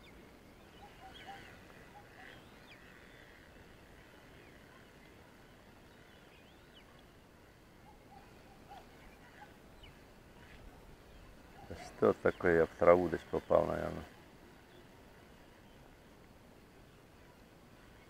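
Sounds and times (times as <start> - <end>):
low bird calls: 0.0 - 16.0.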